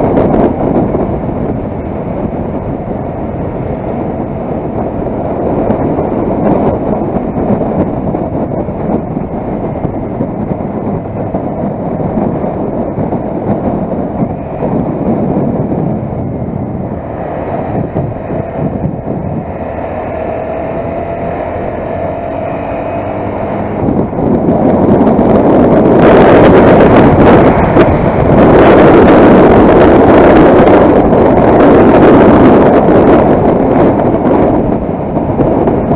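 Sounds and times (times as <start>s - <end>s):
motorcycle engine: 0.0s - 35.9s
wind rushing over microphone: 0.0s - 35.9s.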